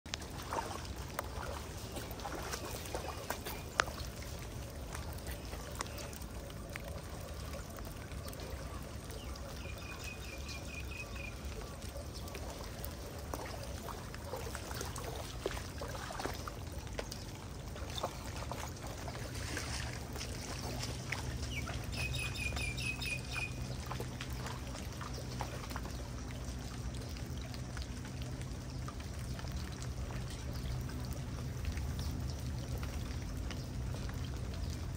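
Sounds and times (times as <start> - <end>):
flood water pouring: 0.1 - 34.9.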